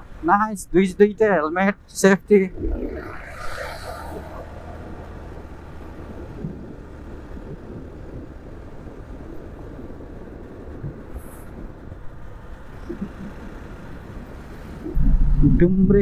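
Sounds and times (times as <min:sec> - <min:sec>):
motorcycle engine rumbling: 0:01.9 - 0:16.0.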